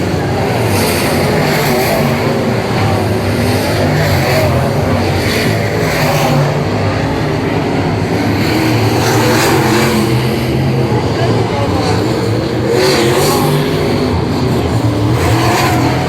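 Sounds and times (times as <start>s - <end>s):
racing car engines: 0.0s - 16.0s.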